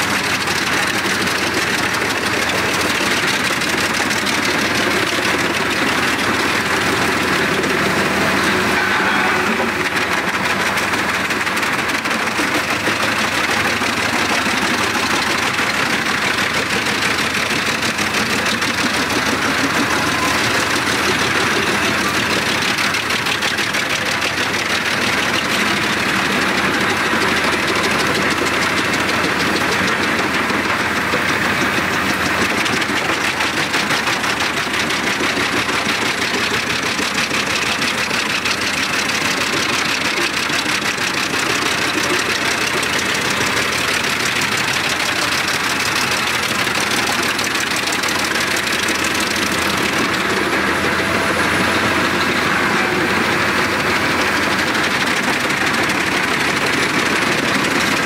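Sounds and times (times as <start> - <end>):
wood chipper engine running hard: 0.0 - 58.0.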